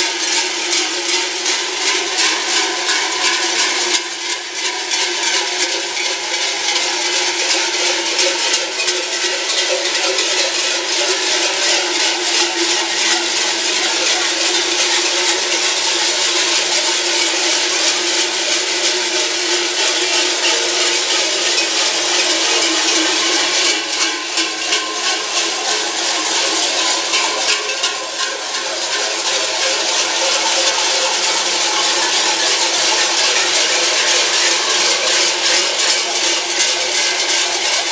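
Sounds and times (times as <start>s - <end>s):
cowbells clanging: 0.0s - 37.9s.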